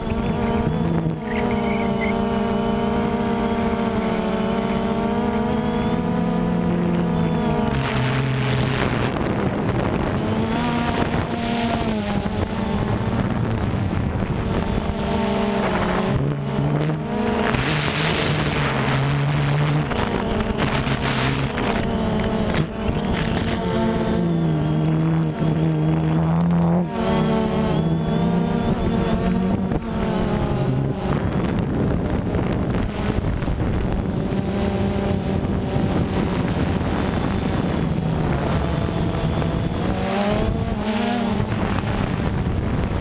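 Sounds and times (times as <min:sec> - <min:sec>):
drone motors humming: 0:00.0 - 0:43.0
wind on microphone: 0:00.0 - 0:43.0.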